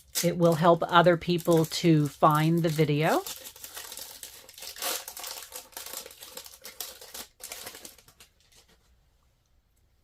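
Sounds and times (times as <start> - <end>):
wrapper crinkling: 0.0 - 8.9.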